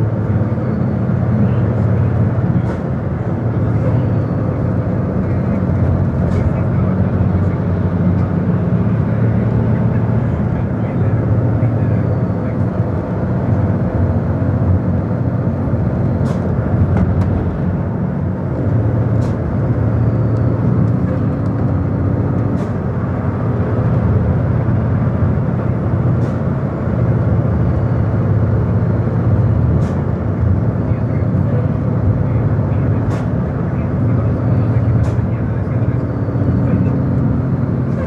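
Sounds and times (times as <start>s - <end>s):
vehicle engine and tyre rumble: 0.0s - 38.0s.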